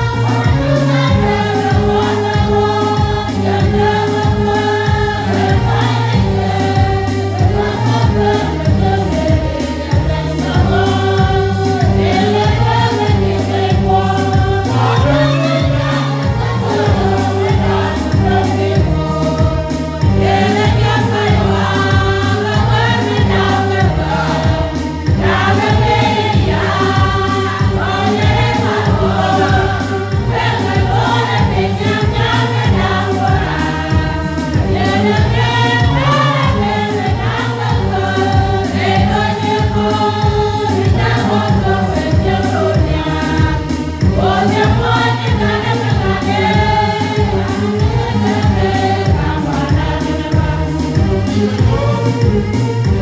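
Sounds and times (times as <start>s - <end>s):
choir singing gospel: 0.0s - 53.0s
steady beat and bass: 0.0s - 53.0s.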